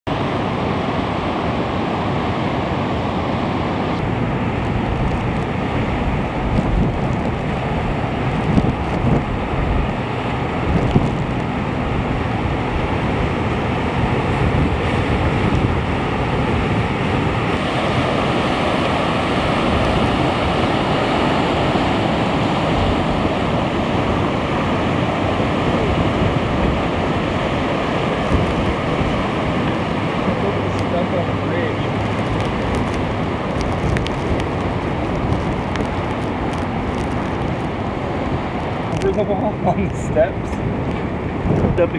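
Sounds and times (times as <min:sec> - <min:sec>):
surf breaking around pilings: 0:00.1 - 0:41.9
wind buffeting microphone: 0:00.1 - 0:41.9
low gusts or crashes: 0:04.1 - 0:41.9.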